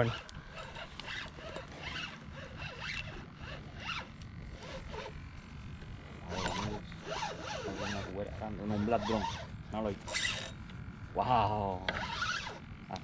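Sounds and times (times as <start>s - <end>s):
fishing reel whirring: 0.0s - 13.0s.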